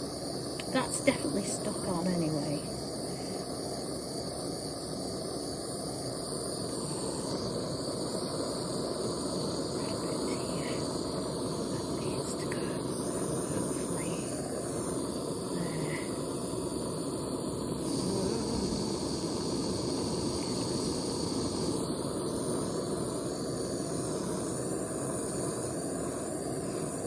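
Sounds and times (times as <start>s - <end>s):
gas torch hissing: 0.0s - 27.0s.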